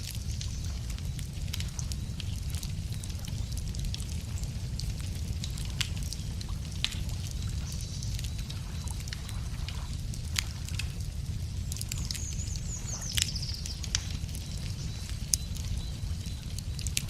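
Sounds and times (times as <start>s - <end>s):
low rumble of fire: 0.0s - 17.0s
wood fire crackling and popping: 0.0s - 17.0s.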